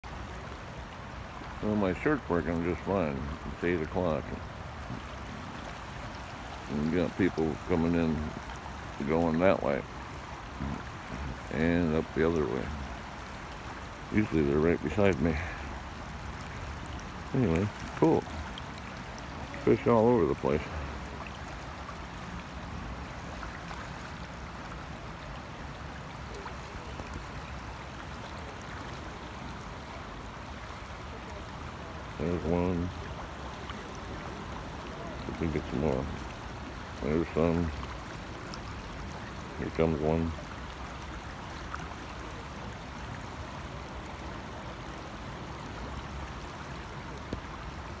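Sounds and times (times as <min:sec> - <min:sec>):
stream flowing over stones: 0:00.0 - 0:48.0.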